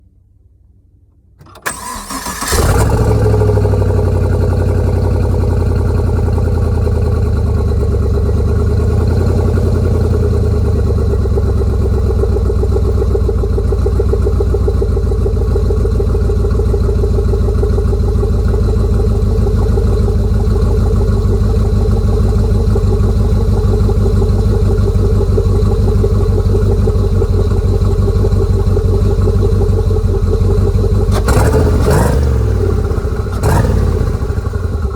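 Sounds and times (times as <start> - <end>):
car engine starting and idling: 0.5 - 34.9.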